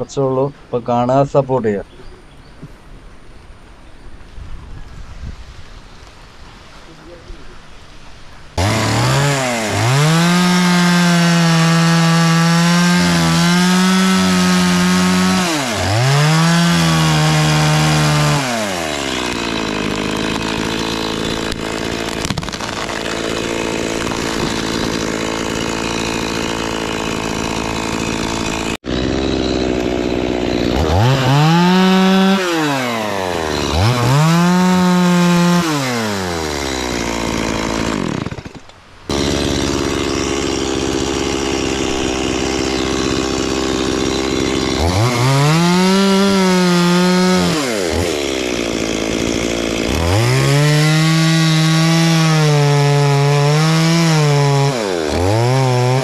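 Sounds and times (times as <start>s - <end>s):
chainsaw cutting wood: 8.6s - 56.0s.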